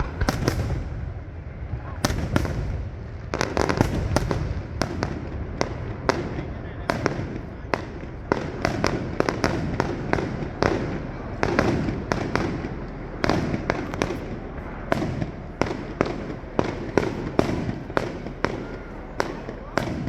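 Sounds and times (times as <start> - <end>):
fireworks sharp bangs: 0.0 - 20.0
rumble of echoing booms: 0.0 - 20.0.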